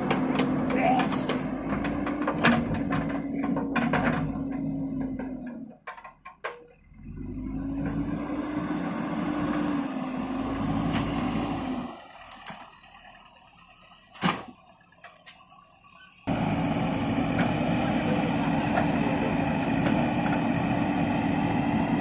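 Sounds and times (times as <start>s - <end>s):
diesel engine running with whine: 0.0s - 6.1s, 6.7s - 22.0s.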